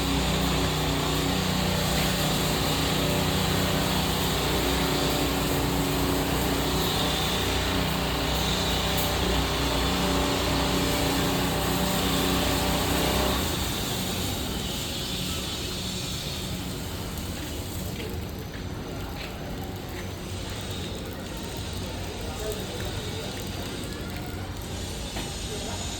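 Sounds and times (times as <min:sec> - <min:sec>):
fire pump engine running: 0:00.0 - 0:25.9.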